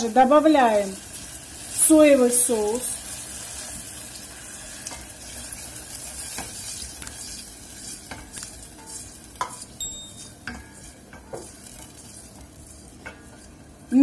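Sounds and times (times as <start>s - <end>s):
sauce sizzling in pan: 0.0s - 14.0s.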